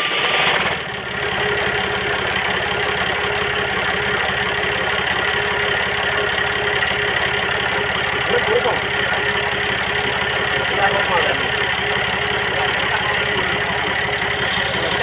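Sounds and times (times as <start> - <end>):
generator engine idling: 0.0 - 15.0.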